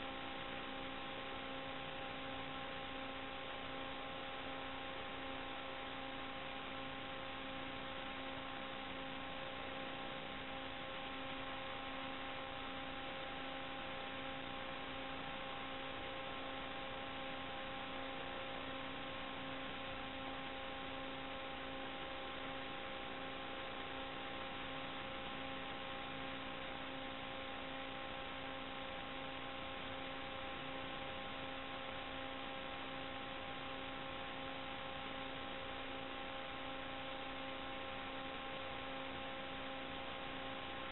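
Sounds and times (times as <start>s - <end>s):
electrical hum: 0.0s - 40.9s
static hiss: 0.0s - 40.9s.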